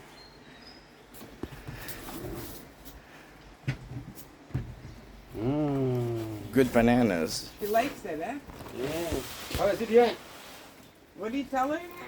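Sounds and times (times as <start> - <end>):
rustling: 1.1 - 12.0.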